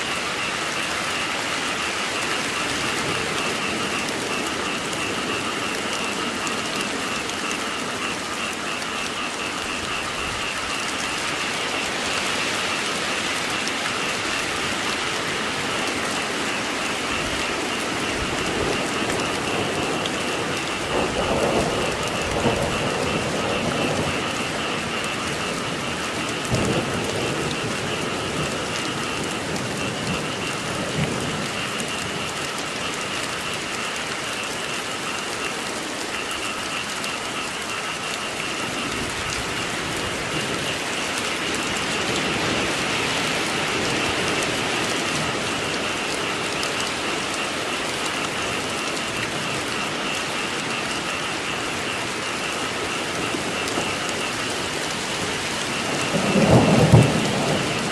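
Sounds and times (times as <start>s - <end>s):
frogs croaking: 0.0s - 57.9s
steady rain: 0.0s - 57.9s.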